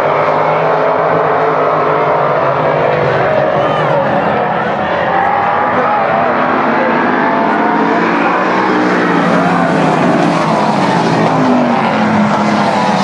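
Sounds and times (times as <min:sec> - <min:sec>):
stock car engines racing: 0:00.0 - 0:13.0.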